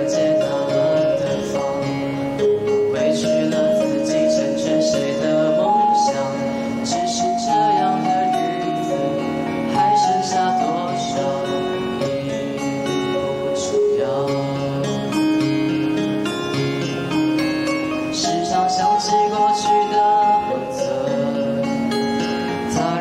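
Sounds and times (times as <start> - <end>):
young man singing ballad: 0.0 - 15.8, 18.0 - 23.0
plucked guitar accompaniment: 0.0 - 23.0.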